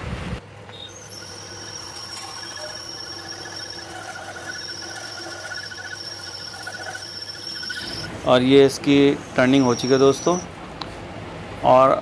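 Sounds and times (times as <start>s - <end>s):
low machine hum: 0.0s - 12.0s
lathe cutting tool whine: 0.7s - 10.6s.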